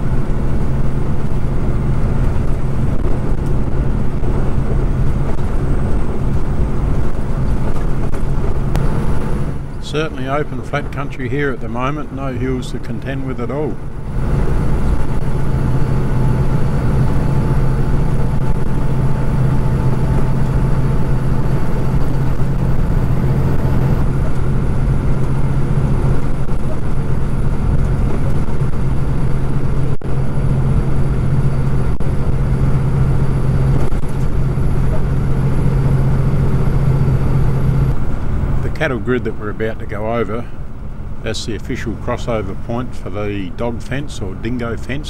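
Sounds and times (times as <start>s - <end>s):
truck engine drone: 0.0s - 45.0s
tyre and road noise: 0.0s - 45.0s.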